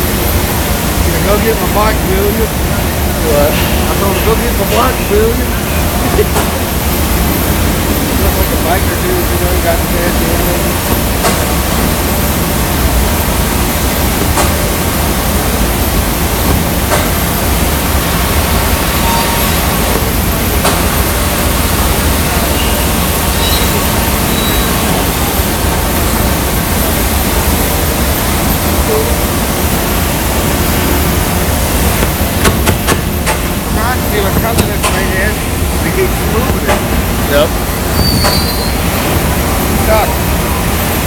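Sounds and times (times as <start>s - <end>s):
furnaces and blowers roaring: 0.0s - 41.0s.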